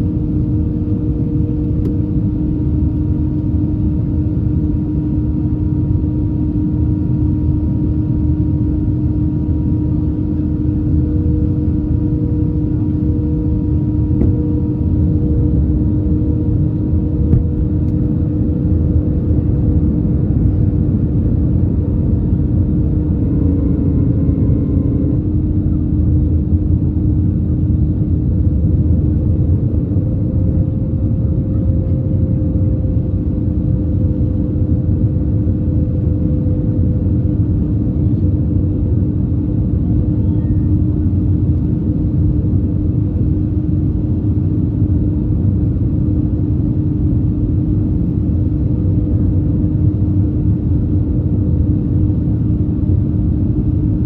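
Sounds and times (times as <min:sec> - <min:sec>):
airliner drone in flight: 0:00.0 - 0:54.0.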